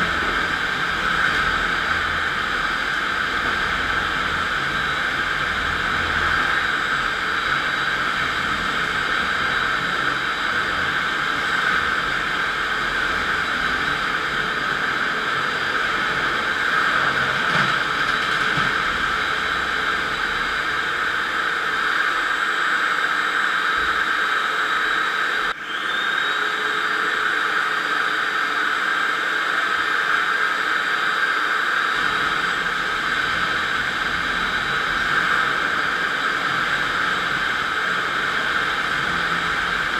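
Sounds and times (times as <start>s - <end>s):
floor grinder grinding concrete: 0.0s - 39.9s.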